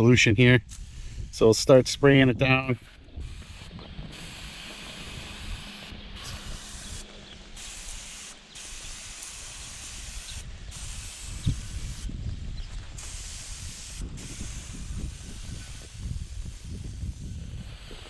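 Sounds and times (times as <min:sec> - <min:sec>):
sprayer hissing: 0:00.6 - 0:01.7, 0:02.8 - 0:18.0.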